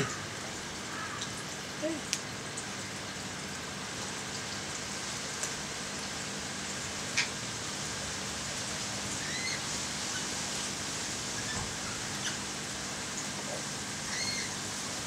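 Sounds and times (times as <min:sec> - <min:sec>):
aquarium water hiss: 0:00.0 - 0:15.0.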